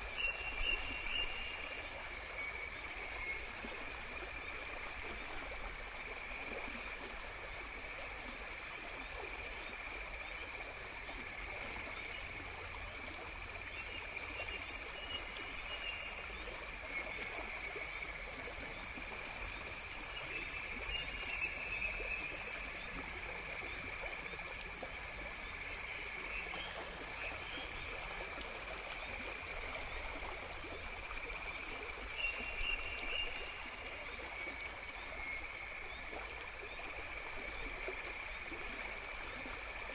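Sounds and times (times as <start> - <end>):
insects chirping: 0.0 - 38.4
running water: 0.0 - 39.9.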